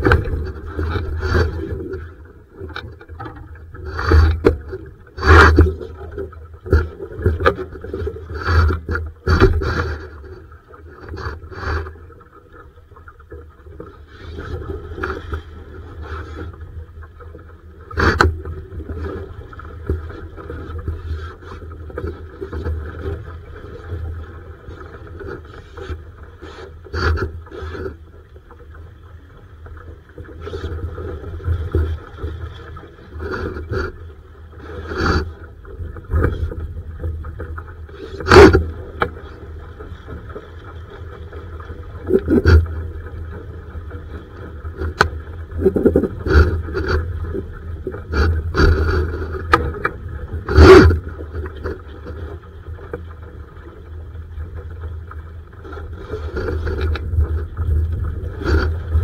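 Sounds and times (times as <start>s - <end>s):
low rumble and water wash: 0.0s - 59.0s.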